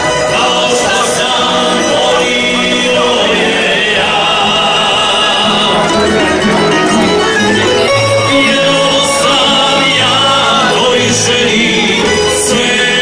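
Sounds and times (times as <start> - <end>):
string band playing dance music: 0.0 - 13.0
voices singing along: 0.0 - 13.0.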